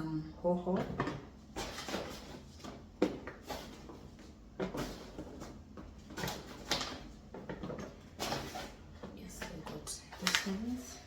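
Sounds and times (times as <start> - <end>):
groceries rustling: 0.7 - 11.0.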